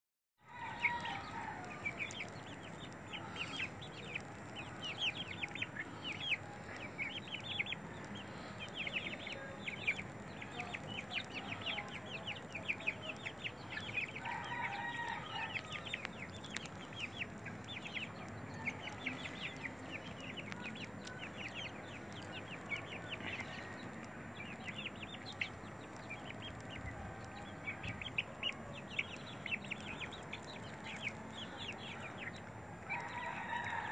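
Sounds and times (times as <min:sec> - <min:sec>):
young chickens clucking and peeping: 0:00.5 - 0:33.9.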